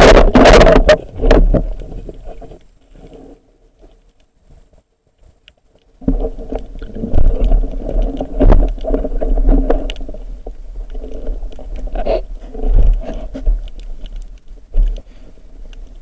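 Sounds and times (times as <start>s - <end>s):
water churning and sloshing: 0.0s - 4.1s, 5.8s - 16.0s.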